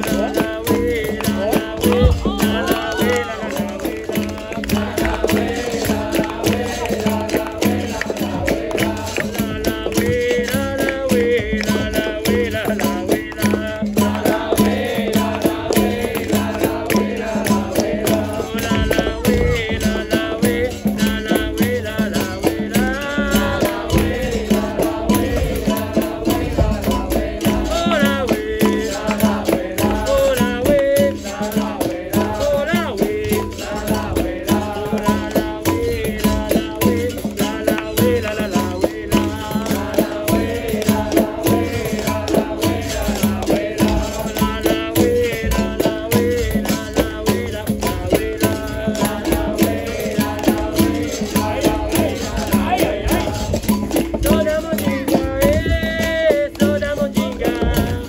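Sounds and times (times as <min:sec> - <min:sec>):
person singing: 0:00.0 - 0:16.4, 0:17.2 - 0:24.8, 0:25.4 - 0:58.0
berimbau: 0:00.0 - 0:58.0
hand percussion beating: 0:00.0 - 0:58.0.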